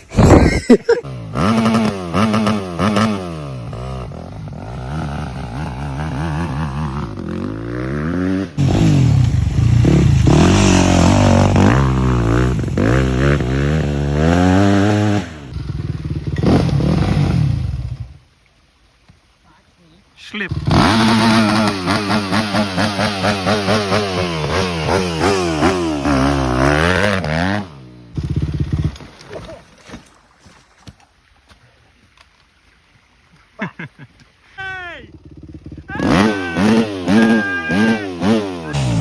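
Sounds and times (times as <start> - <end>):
motorcycle engine revving: 0.0 - 18.2, 20.5 - 29.4, 34.8 - 39.0.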